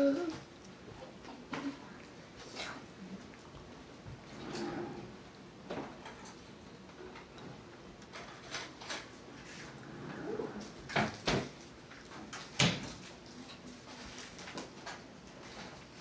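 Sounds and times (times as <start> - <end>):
faint room noise: 0.0 - 16.0.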